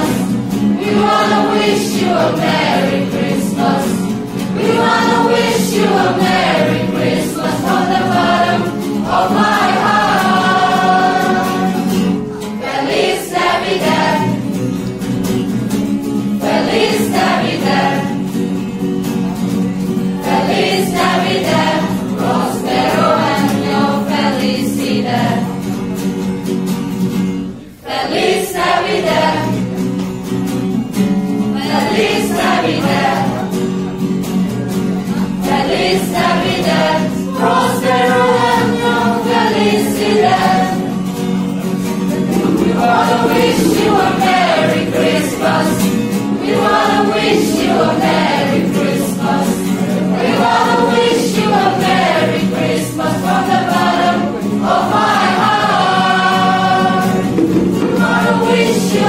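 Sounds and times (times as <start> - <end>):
group singing together: 0.0 - 18.6, 19.9 - 25.8, 27.6 - 29.9, 31.4 - 33.7, 35.0 - 59.0
guitar accompaniment: 0.0 - 59.0.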